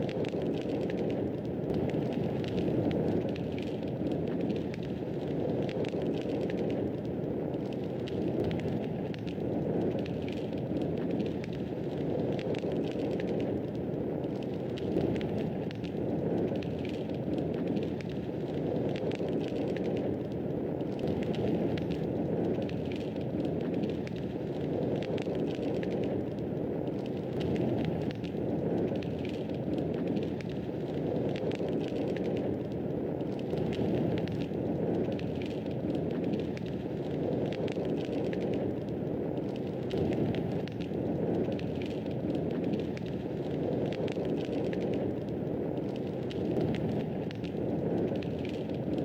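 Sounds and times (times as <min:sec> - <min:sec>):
fire crackling and popping: 0:00.0 - 0:49.0
wood fire burning: 0:00.0 - 0:49.0.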